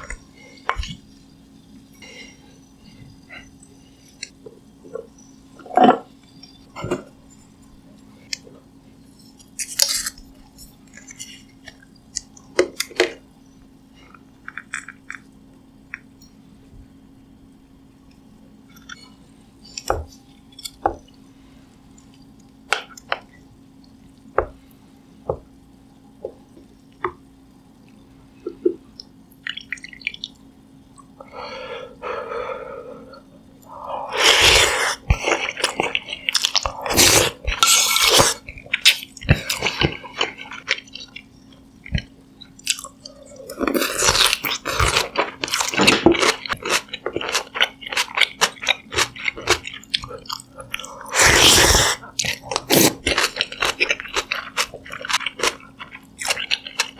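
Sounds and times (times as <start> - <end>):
faint steady hum: 0.0 - 56.9.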